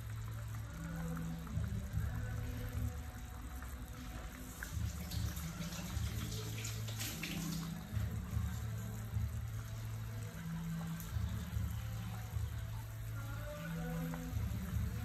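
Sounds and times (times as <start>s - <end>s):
soup bubbling in a pot: 0.0s - 15.0s.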